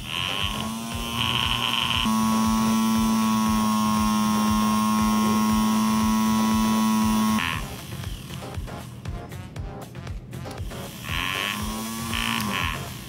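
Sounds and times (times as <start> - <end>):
small electric motor humming: 0.0 - 9.0, 10.3 - 13.0.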